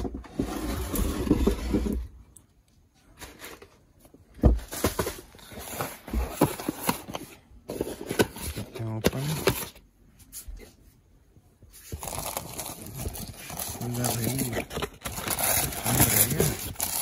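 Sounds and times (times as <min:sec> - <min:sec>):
cardboard rustling and scraping: 0:00.0 - 0:02.2, 0:03.0 - 0:10.8, 0:11.7 - 0:17.0.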